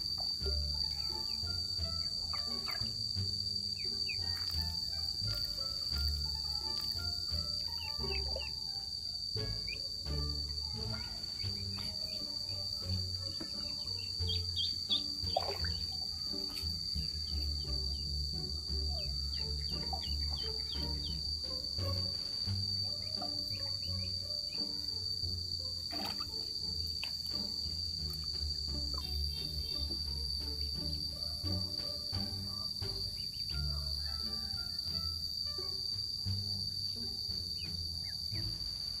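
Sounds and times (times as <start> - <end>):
high-pitched insect drone: 0.0 - 39.0
soft background music: 0.0 - 39.0.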